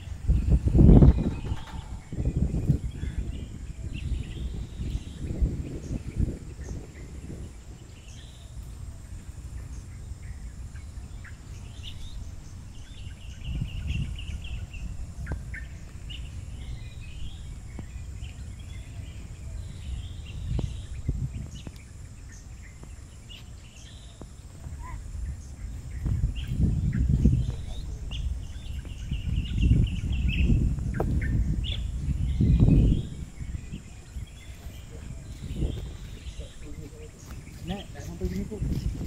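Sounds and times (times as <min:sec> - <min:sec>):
bird trill: 0:00.0 - 0:39.0
birds chirping and calling: 0:00.0 - 0:39.0
low outdoor rumble: 0:00.0 - 0:39.0.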